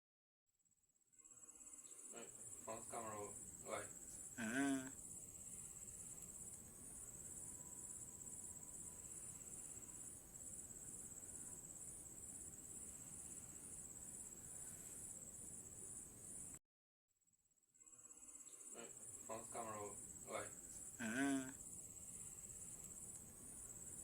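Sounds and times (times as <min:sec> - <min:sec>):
insect chirping: 0:01.1 - 0:16.6, 0:17.8 - 0:24.0.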